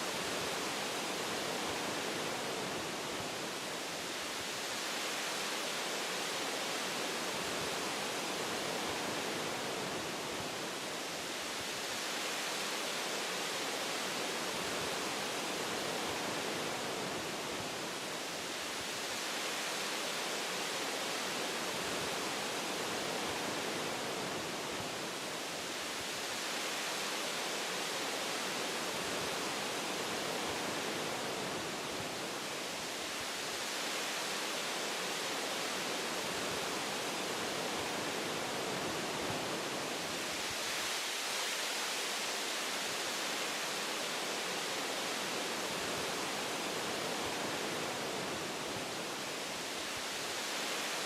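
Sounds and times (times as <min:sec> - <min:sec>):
wind through tree branches: 0:00.0 - 0:51.0.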